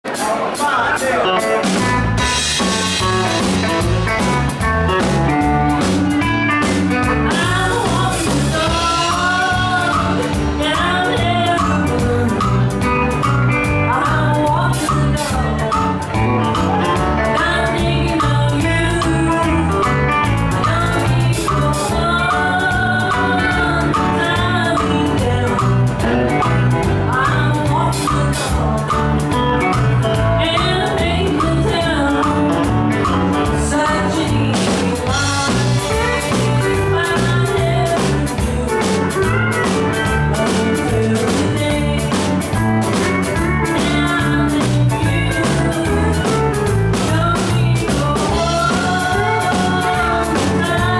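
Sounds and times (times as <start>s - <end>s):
country band playing: 0.0s - 50.9s
woman singing: 6.6s - 50.9s.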